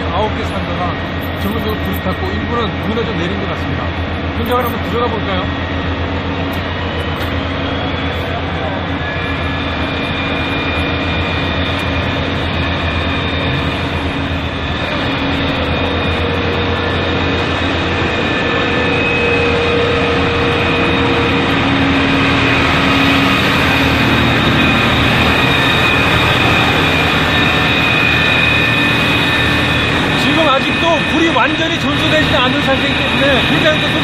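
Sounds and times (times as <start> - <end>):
firefighting equipment rumble: 0.0 - 34.0
steady mechanical tones: 0.0 - 34.0.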